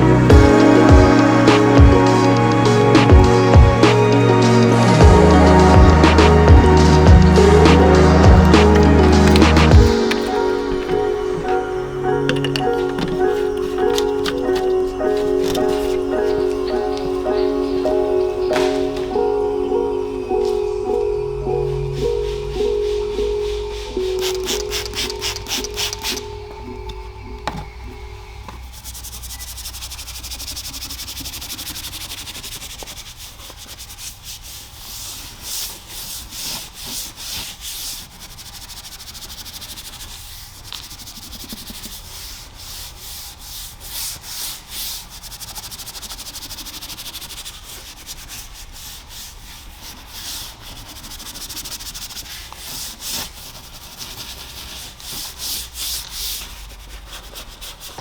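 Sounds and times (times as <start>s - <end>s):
bristle brush scrubbing: 0.0s - 58.0s
steady hiss: 0.0s - 58.0s.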